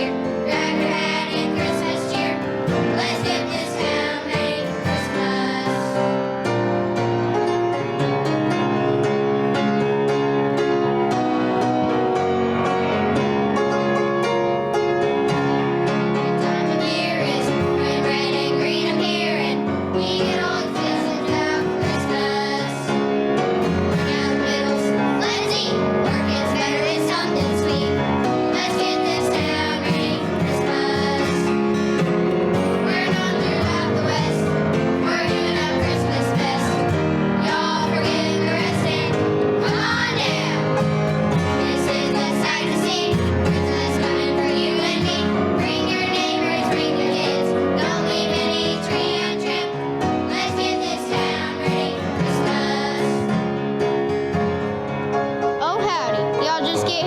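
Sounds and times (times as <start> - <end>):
children's choir singing: 0.0 - 57.0
instrumental accompaniment: 0.0 - 57.0.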